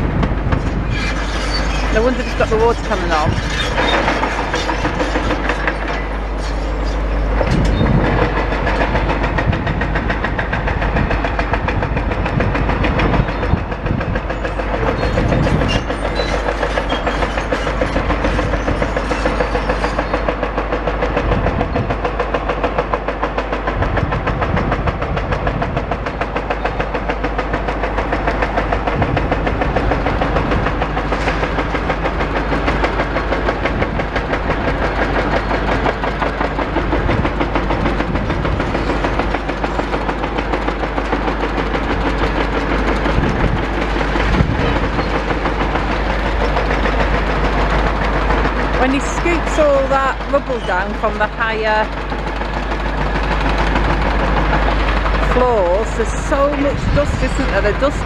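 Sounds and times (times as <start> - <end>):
excavator rhythmic clatter: 0.0 - 58.0
heavy low rumbles: 0.0 - 58.0.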